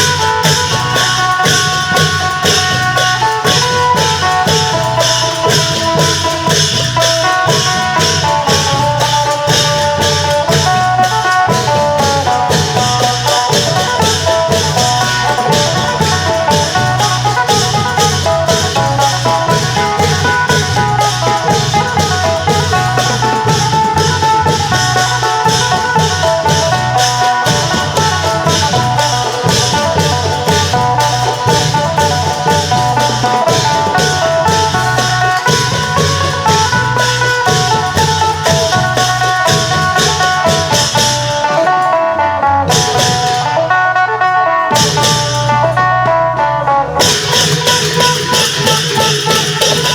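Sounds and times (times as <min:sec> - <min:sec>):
fast percussion strokes: 0:00.0 - 0:49.9
long drum beat: 0:00.0 - 0:49.9
plucked lute melody: 0:00.0 - 0:49.9.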